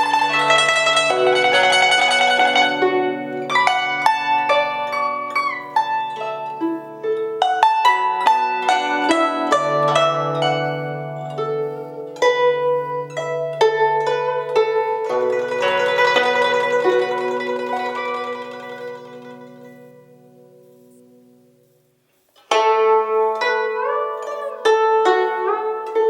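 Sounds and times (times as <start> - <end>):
plucked guzheng melody: 0.0 - 21.6, 22.4 - 26.0.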